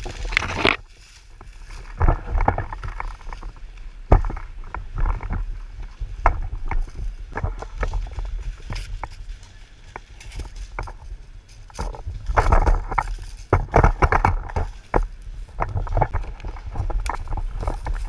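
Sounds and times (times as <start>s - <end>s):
rustling of gear and dry leaves: 0.0s - 18.0s.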